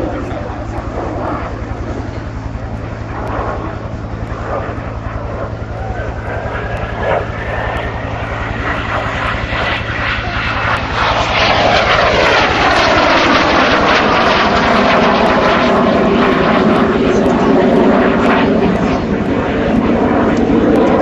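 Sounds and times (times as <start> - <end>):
jet engines whining in flyby: 0.0 - 21.0.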